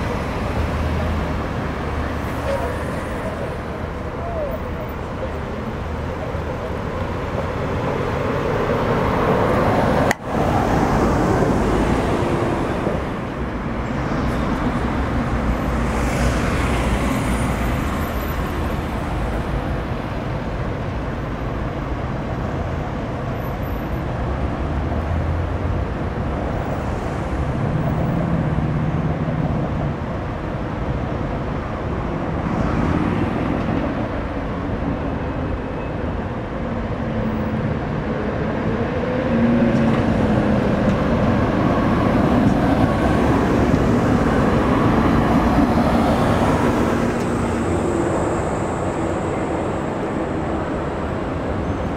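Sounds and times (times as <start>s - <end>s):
city road traffic: 0.0s - 51.9s
tram rumbling on rails: 0.0s - 51.9s.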